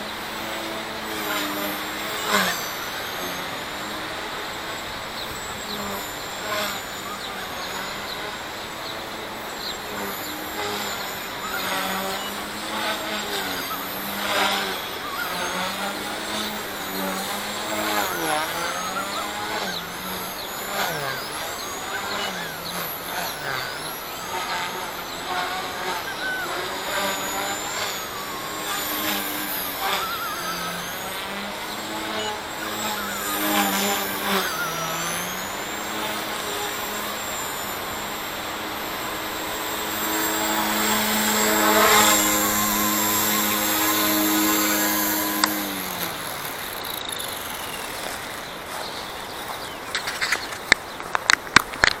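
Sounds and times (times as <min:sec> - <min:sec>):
rc helicopter motor whine and rotor buzz: 0:00.0 - 0:52.0.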